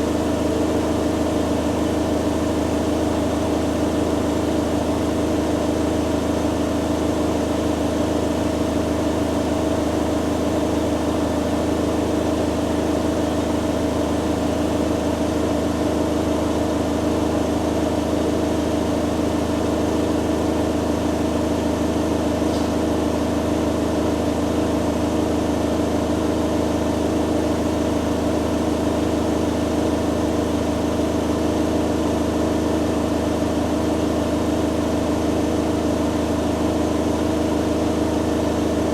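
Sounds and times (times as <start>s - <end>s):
washing machines spinning: 0.0s - 38.9s.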